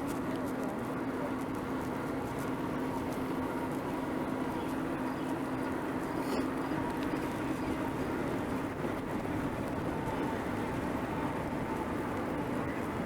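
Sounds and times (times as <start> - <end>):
bicycle tyres rolling on pavement: 0.0 - 13.0
wind: 0.0 - 13.0.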